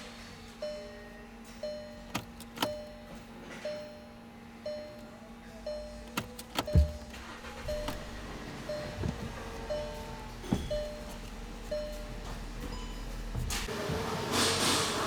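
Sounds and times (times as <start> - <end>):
steady low hum: 0.0 - 13.7
car warning chime: 0.6 - 13.4.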